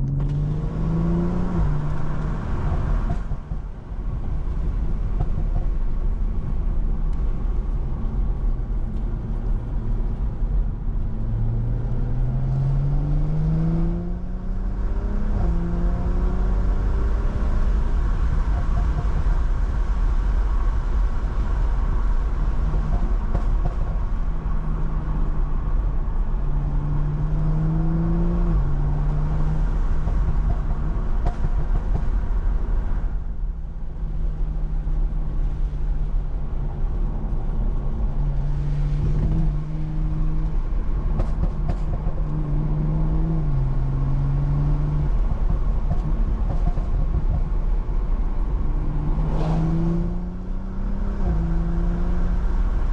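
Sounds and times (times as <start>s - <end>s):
car engine accelerating: 0.0s - 5.7s, 7.0s - 52.9s.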